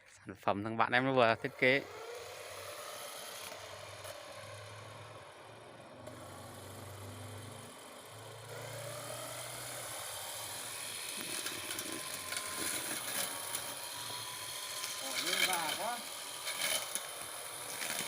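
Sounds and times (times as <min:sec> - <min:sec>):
cutter head cutting grass: 0:01.2 - 0:18.0
electric brush cutter motor hum: 0:01.3 - 0:18.0.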